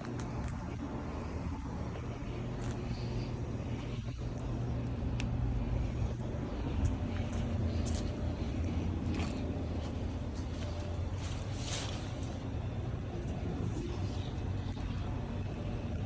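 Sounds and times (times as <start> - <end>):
air conditioner compressor hum: 0.0 - 16.0
condenser fan whoosh: 0.0 - 16.0.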